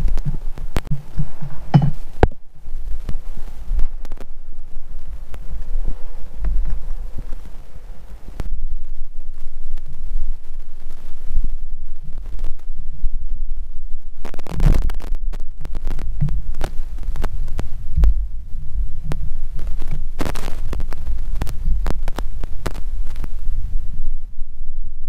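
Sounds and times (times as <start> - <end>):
low rumble with thumping: 0.0 - 25.0.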